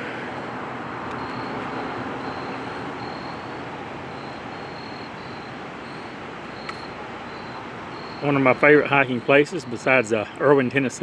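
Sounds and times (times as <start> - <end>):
highway traffic rushing: 0.0 - 11.0.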